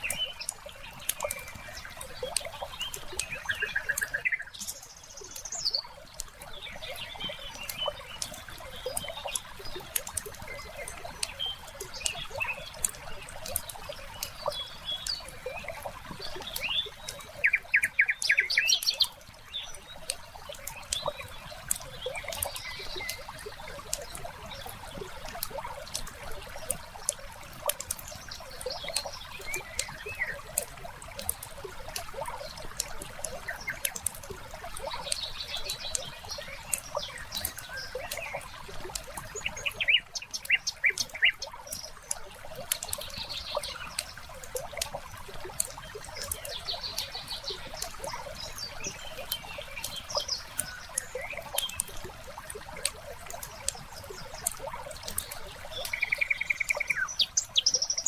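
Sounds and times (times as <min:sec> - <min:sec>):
log fire crackling and popping: 0:00.0 - 0:17.8, 0:19.0 - 0:56.1
birds chirping: 0:00.0 - 0:58.0
water trickling: 0:00.0 - 0:58.0.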